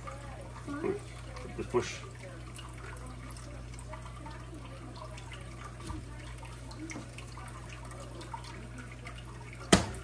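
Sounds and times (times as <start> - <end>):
aquarium filter humming: 0.0 - 10.0
water trickling: 0.0 - 10.0.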